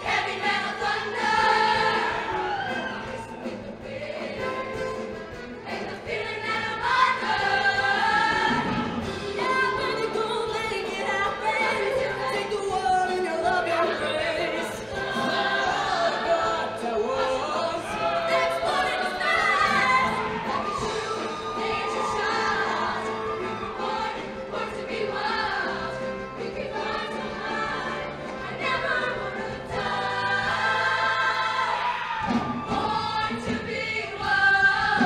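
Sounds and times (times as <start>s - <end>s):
choir singing in harmony: 0.0s - 35.0s.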